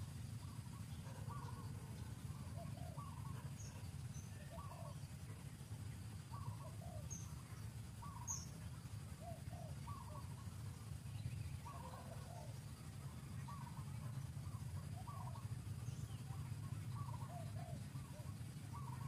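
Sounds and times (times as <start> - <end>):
bird repeating rising call: 0.0 - 5.3, 6.2 - 10.8, 11.5 - 19.0
steady low rumble: 0.0 - 19.0.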